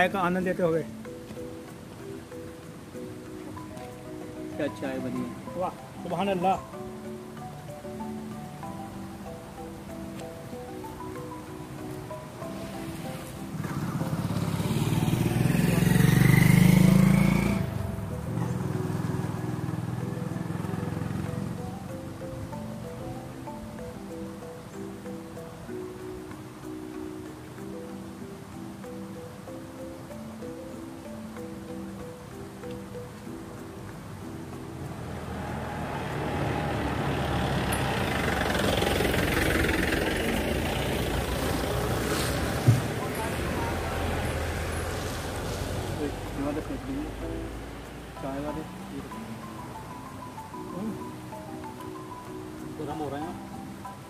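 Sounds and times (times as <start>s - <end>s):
motorcycle passing: 0.0s - 54.0s.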